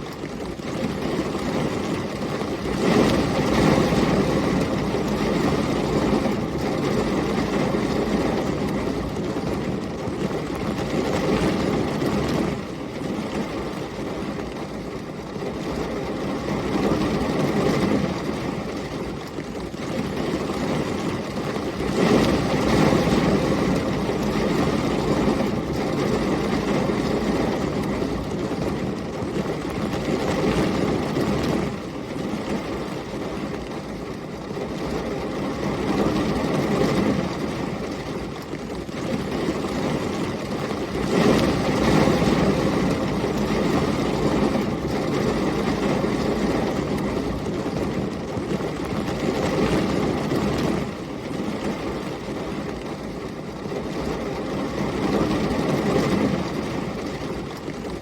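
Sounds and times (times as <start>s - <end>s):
heavy rain: 0.0s - 58.0s
storm wind: 0.0s - 58.0s.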